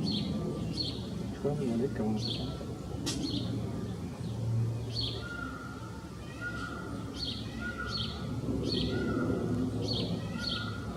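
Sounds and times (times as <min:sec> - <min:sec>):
small bird singing: 0:00.0 - 0:10.9.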